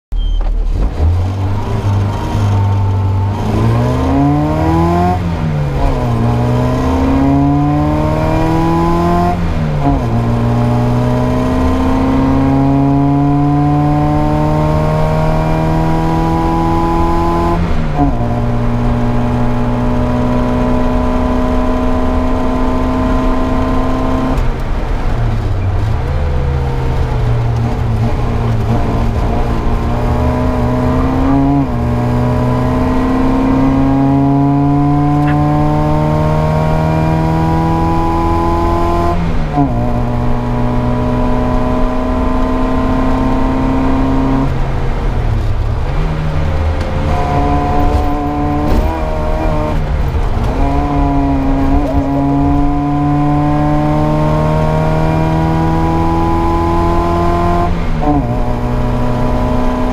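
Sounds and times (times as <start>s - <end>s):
car engine accelerating: 0.2s - 59.9s.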